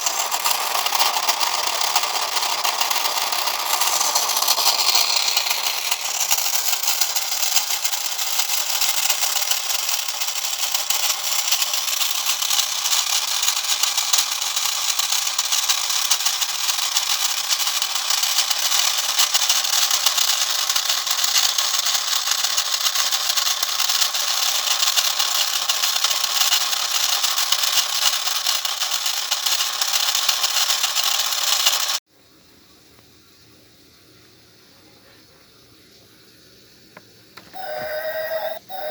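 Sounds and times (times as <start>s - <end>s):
fine rapid clicking: 0.0s - 32.0s, 37.4s - 38.9s
toy locomotive motor rattling: 0.0s - 32.0s, 37.4s - 38.9s.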